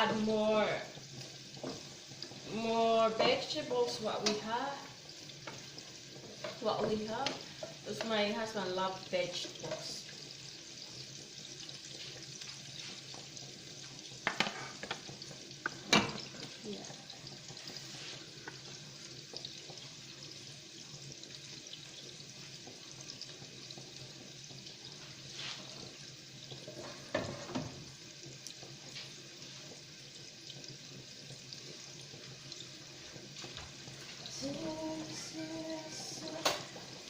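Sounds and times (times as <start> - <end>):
garlic and onion sizzling in oil: 0.0 - 37.0.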